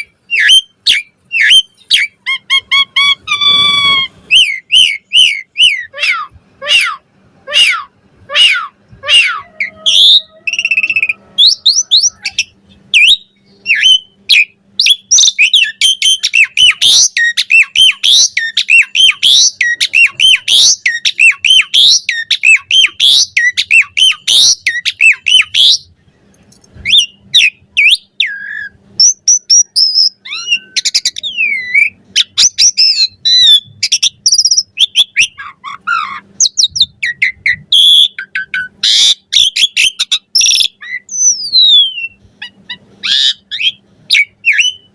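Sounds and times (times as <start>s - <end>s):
starling chattering song: 0.0s - 25.9s, 26.9s - 44.9s.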